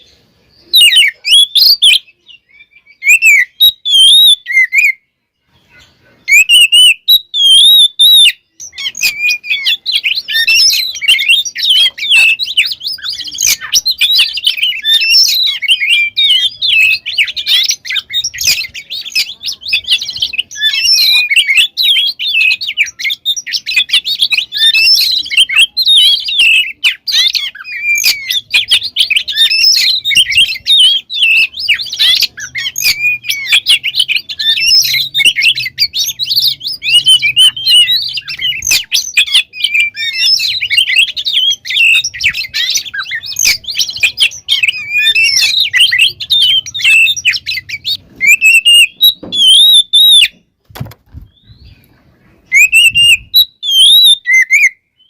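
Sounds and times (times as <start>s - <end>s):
bird singing varied whistles: 0.0s - 5.1s, 6.2s - 50.4s, 51.2s - 51.9s, 52.5s - 55.0s.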